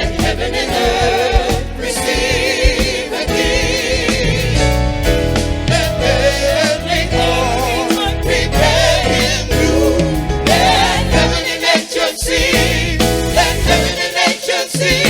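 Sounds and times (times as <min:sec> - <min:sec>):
band accompaniment: 0:00.0 - 0:15.0
choir singing: 0:00.0 - 0:15.0.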